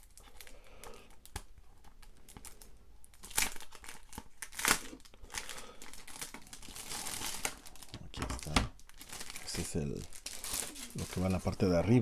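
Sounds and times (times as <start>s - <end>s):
loud plastic crackles: 0.0s - 11.6s
plastic bag crinkling: 0.0s - 12.0s.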